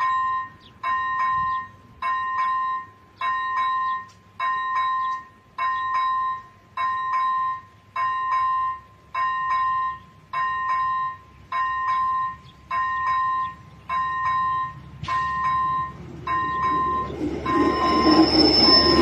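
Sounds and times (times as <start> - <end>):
level crossing electronic bell ringing: 0.0 - 19.0.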